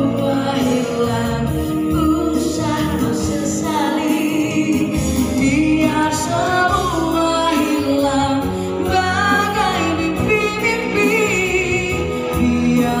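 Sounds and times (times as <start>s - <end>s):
backing track with bass: 0.0s - 13.0s
woman singing into a microphone: 0.0s - 13.0s.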